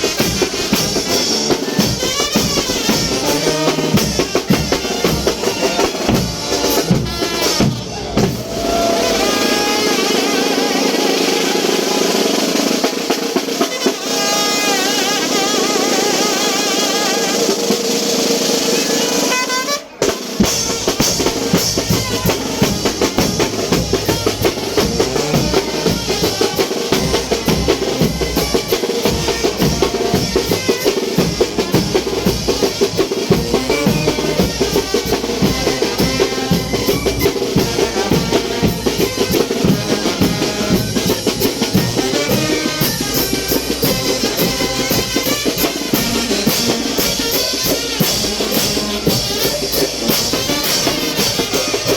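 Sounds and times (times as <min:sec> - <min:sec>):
brass band playing: 0:00.0 - 0:51.9
drums and cymbals beat: 0:00.0 - 0:51.9.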